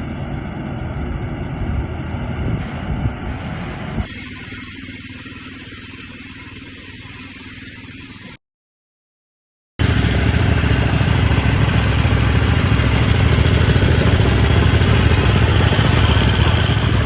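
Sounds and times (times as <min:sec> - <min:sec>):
garden tractor engine running: 0:00.0 - 0:08.3, 0:09.8 - 0:17.0.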